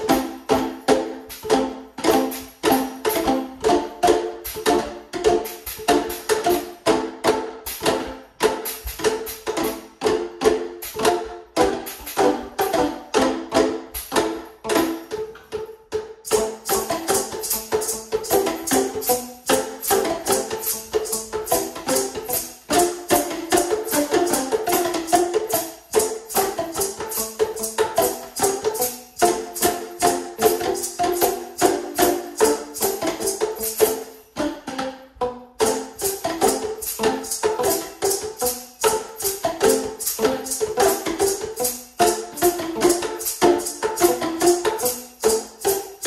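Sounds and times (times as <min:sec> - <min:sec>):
plastic tubes struck rhythmically: 0:00.0 - 0:46.0.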